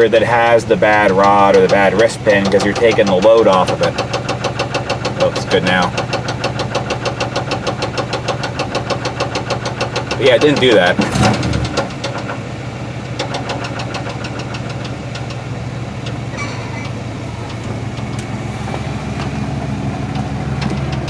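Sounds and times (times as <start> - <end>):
engine idling with knock: 0.0 - 21.0.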